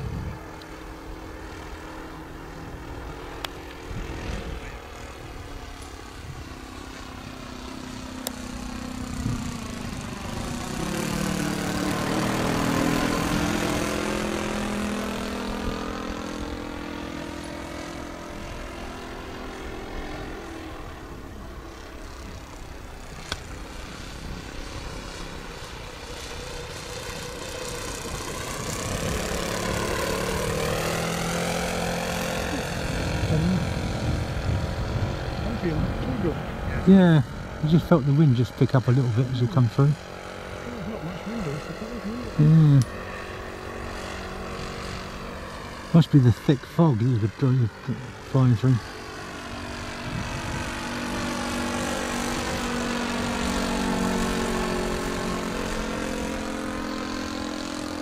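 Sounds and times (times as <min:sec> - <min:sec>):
model airplane engine flying past: 0:00.0 - 0:58.0.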